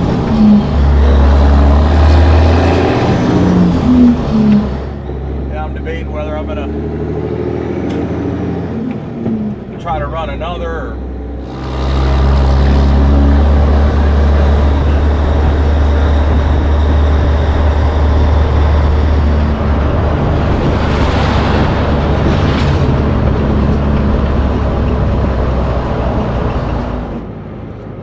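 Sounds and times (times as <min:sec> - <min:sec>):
rushing noise: 0:00.0 - 0:10.4, 0:11.3 - 0:27.7
truck diesel engine droning: 0:00.0 - 0:28.0.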